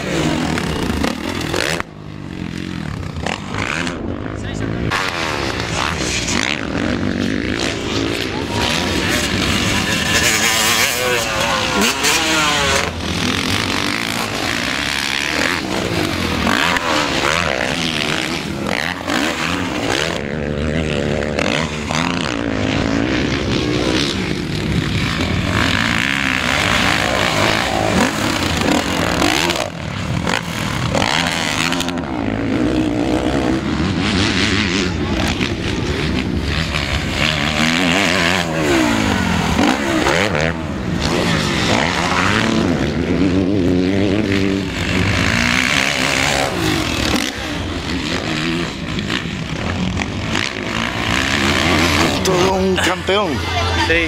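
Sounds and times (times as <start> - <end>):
motorbike engines idling and revving: 0.0 - 54.0.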